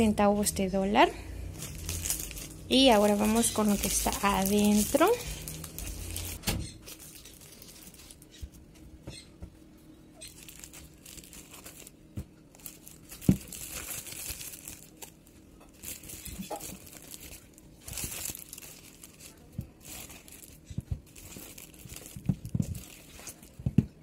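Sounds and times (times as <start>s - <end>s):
plastic sack rustling: 1.4s - 8.4s, 10.2s - 24.0s.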